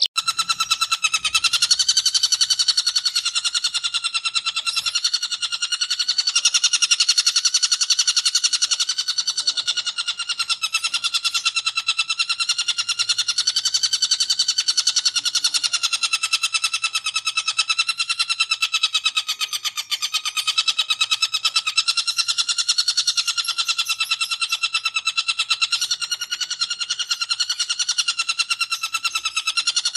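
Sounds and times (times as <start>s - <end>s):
bird harsh chatter: 0.0s - 29.9s.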